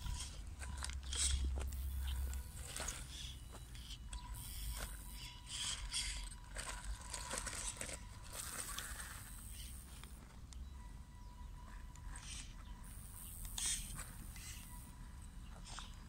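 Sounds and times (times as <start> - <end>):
gravel crunching under tyres: 0.0 - 16.0.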